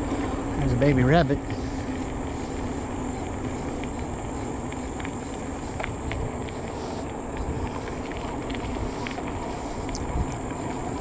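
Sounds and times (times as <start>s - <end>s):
insect chirps: 0.0s - 11.0s
tyre rumble on paved path: 0.0s - 11.0s
wind rush on microphone: 0.0s - 11.0s.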